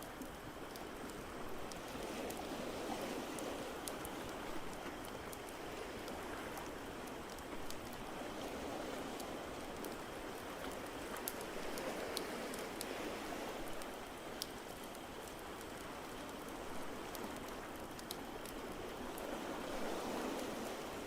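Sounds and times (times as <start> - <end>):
ocean waves: 0.5 - 21.0.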